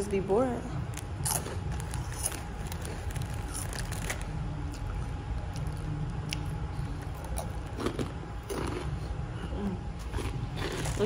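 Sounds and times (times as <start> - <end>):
low background hum: 0.0 - 11.0
crunching and chewing snack: 0.9 - 9.2, 10.0 - 11.0.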